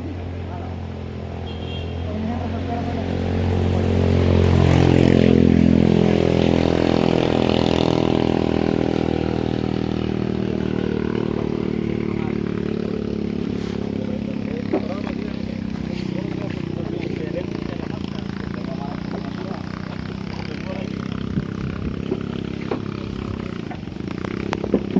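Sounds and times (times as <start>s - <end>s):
truck engine under load: 2.6s - 24.9s.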